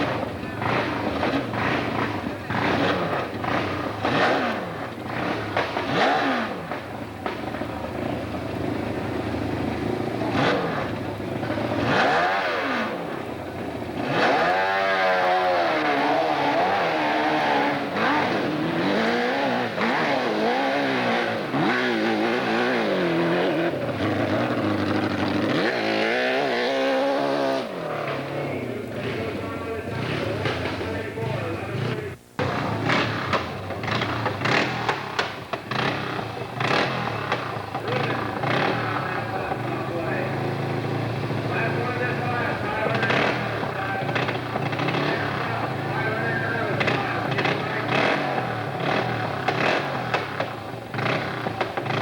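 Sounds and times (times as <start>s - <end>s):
motorcycle engines revving: 0.0s - 52.0s.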